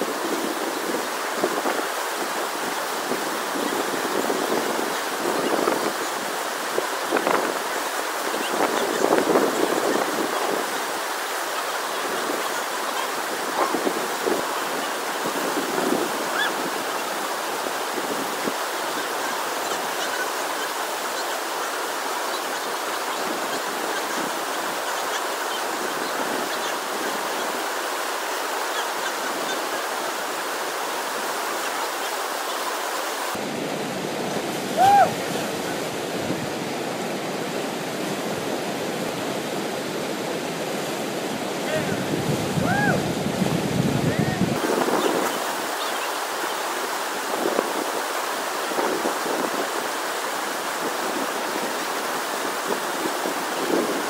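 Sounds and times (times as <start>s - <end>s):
whitewater rushing: 0.0s - 54.0s.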